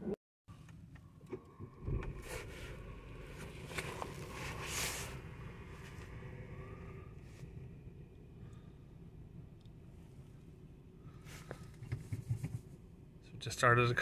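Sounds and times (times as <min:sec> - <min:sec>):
car engine starting and idling: 0:00.5 - 0:11.8.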